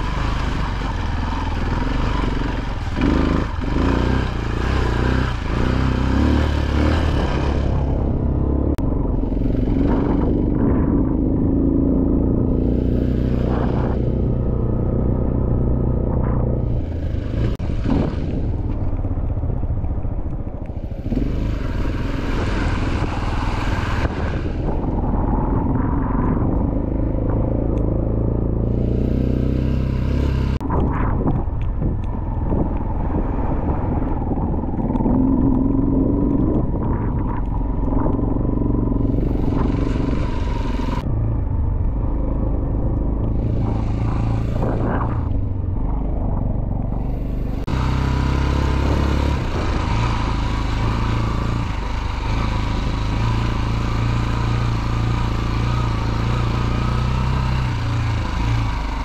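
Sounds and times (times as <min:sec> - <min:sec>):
dirt bike engine running: 0:00.0 - 0:59.0
wind rushing across microphone: 0:00.0 - 0:59.0.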